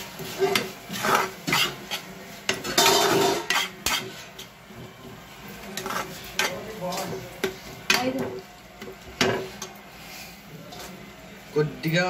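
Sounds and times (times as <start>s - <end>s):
spatula scraping frying pan: 0.0s - 10.4s.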